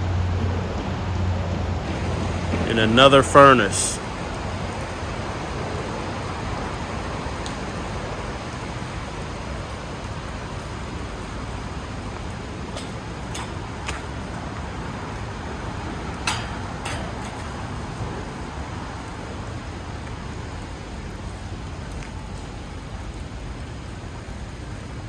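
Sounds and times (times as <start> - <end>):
low urban background rumble: 0.0 - 25.0.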